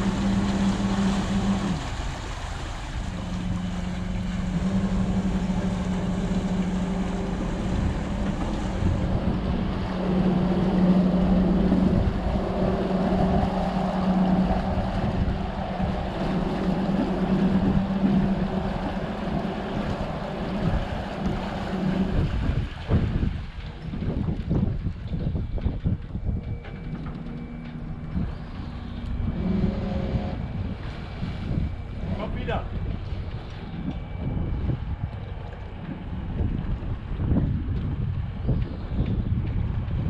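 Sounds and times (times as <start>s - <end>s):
boat motor humming: 0.0s - 40.0s
wind buffeting microphone: 0.0s - 40.0s.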